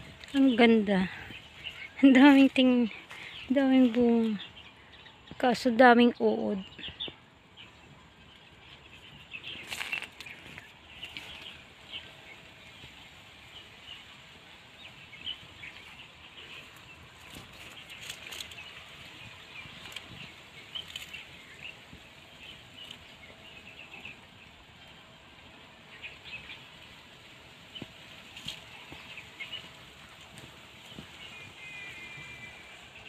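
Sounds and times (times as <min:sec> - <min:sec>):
leaves and branches rustling: 0:00.0 - 0:33.0
small birds chirping: 0:00.0 - 0:33.0.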